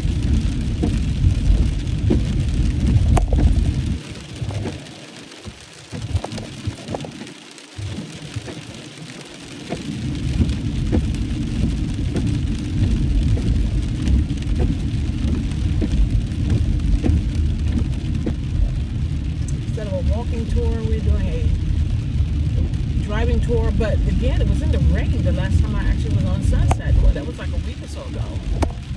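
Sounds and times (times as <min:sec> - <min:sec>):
heavy rain on car roof: 0:00.0 - 0:28.9
low car rumble: 0:00.0 - 0:28.9.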